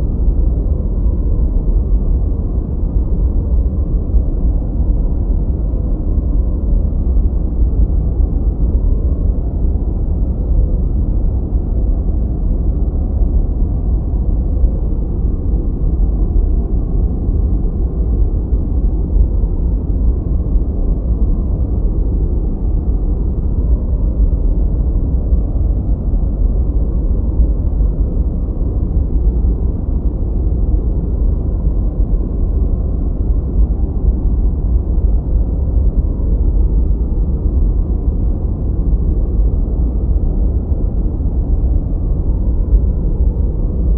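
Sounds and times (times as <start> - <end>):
deep muffled white noise: 0.0 - 43.9.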